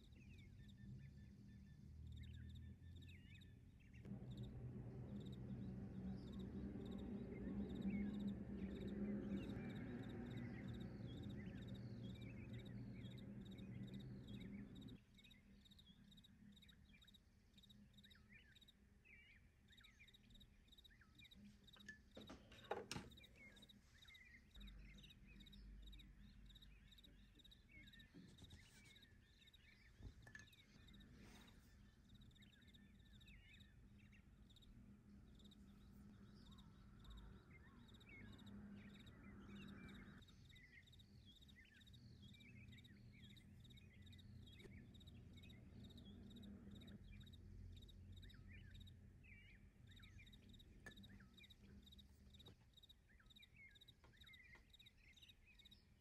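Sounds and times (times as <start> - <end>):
low hum: 0.0 - 18.5, 22.9 - 54.4
faint high chirps: 0.0 - 56.0.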